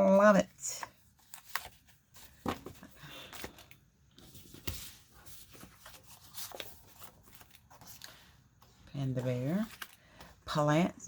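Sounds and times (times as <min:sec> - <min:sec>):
paper and envelopes rustling: 0:00.0 - 0:10.9.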